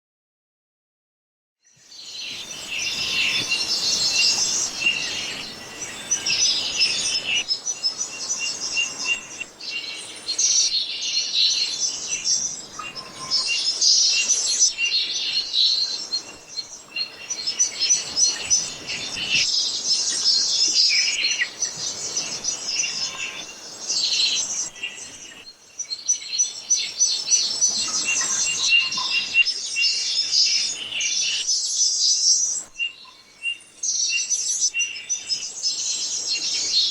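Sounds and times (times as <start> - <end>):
songbirds chirping and twittering: 1.6 - 36.9.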